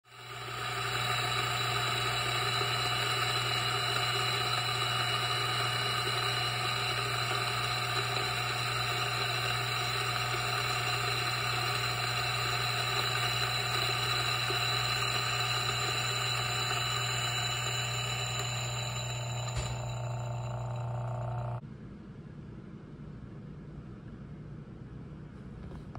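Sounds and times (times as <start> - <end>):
coffee grinder grinding beans: 0.0 - 21.6
motor hum: 0.0 - 21.6.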